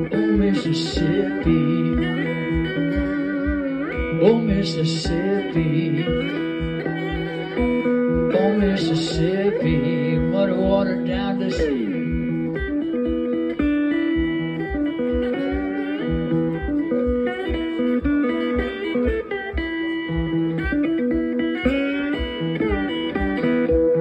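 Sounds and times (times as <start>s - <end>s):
amplified guitar blues riff: 0.0s - 24.0s
stomp box thumping beat: 0.0s - 24.0s.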